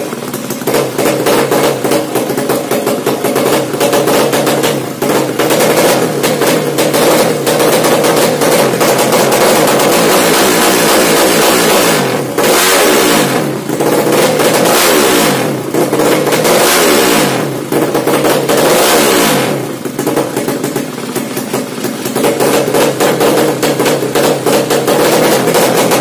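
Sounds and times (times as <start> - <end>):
exhaust popping: 0.0 - 26.0
motorcycle engine revving: 0.0 - 26.0.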